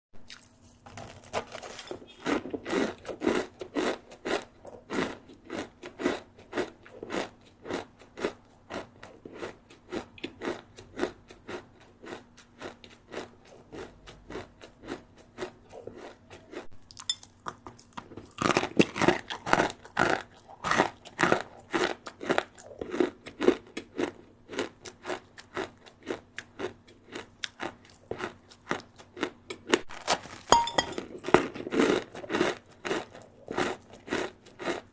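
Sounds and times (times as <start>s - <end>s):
person chewing crispy snack: 0.2s - 34.9s.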